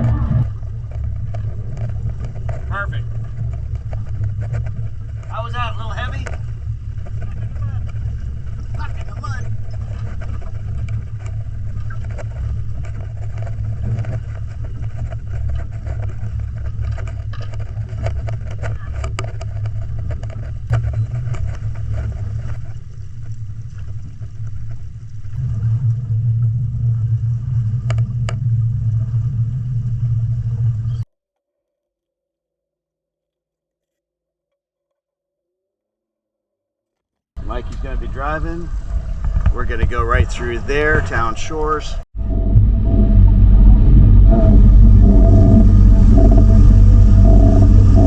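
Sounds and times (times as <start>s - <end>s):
boat engine running under load: 0.0s - 31.0s, 37.4s - 48.0s.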